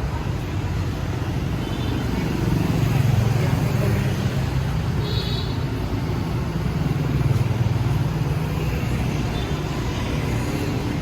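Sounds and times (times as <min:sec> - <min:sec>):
traffic engines passing: 0:00.0 - 0:11.0.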